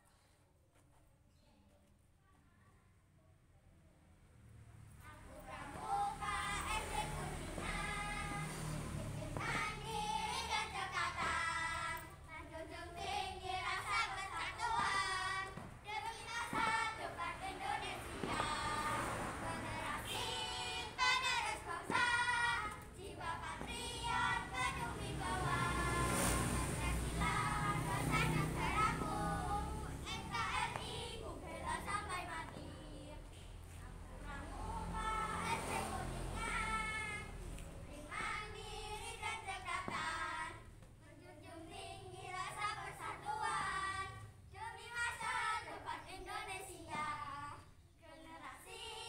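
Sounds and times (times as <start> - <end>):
girls chanting together: 5.1 - 49.0.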